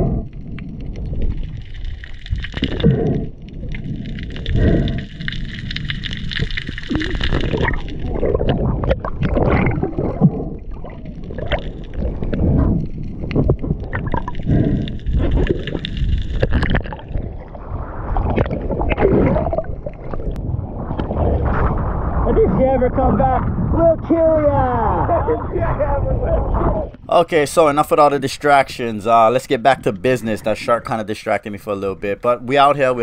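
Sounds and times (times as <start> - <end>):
muffled underwater gurgling: 0.0 - 27.0.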